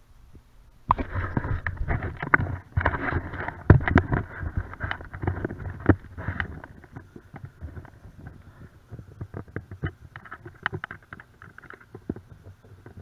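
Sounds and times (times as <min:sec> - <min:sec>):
knocks and thumps: 0:00.9 - 0:13.0.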